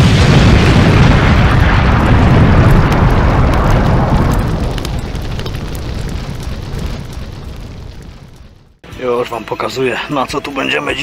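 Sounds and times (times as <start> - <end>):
rumbling fiery blast: 0.0 - 8.8.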